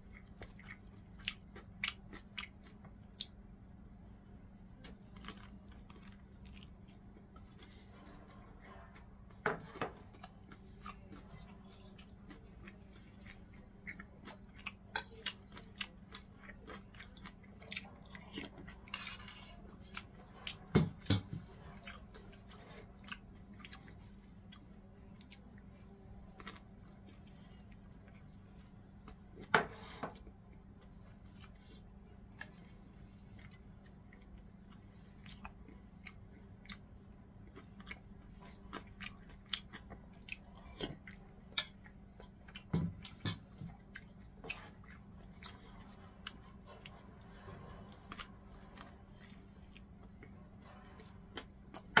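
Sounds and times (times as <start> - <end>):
person chewing food: 0.0 - 52.0
steady low hum: 0.0 - 52.0.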